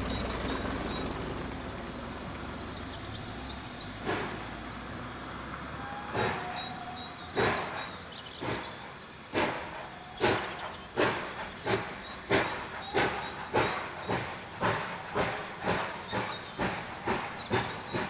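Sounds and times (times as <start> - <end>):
steam locomotive exhaust chuffs: 0.0 - 18.0.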